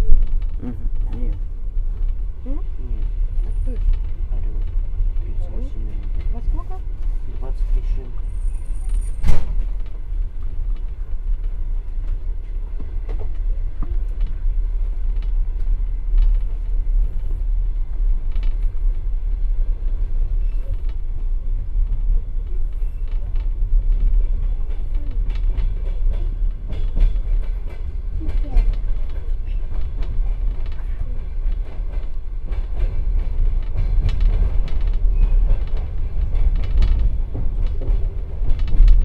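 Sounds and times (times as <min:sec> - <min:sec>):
train car rumbling: 0:00.0 - 0:39.0.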